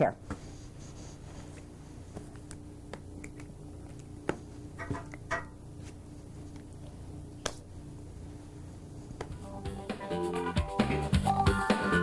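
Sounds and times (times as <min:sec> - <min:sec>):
low electrical hum: 0:00.0 - 0:11.7.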